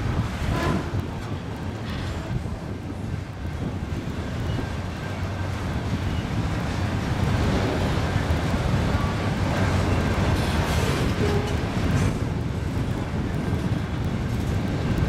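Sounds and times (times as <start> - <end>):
train wheels rumbling on rails: 0.0 - 15.0
wind buffeting microphone: 0.0 - 15.0.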